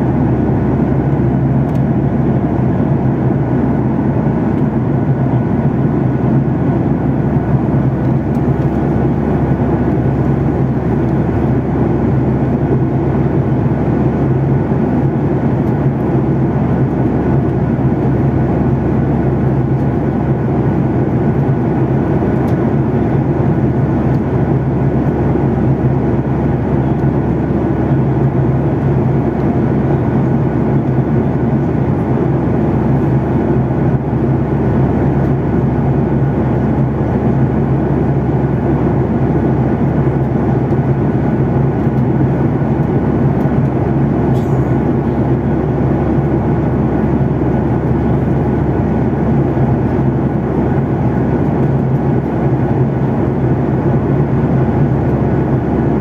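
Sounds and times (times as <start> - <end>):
jet airliner cabin drone: 0.0 - 56.0.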